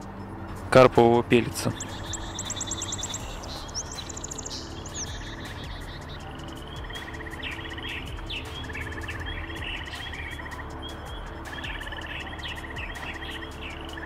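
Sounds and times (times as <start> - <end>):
small birds trilling and chirping: 0.0 - 14.0
steady low hum: 1.5 - 13.9.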